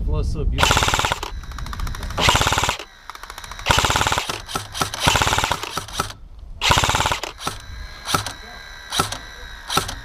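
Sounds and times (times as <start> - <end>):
airsoft gun full-auto bursts: 0.6 - 10.0.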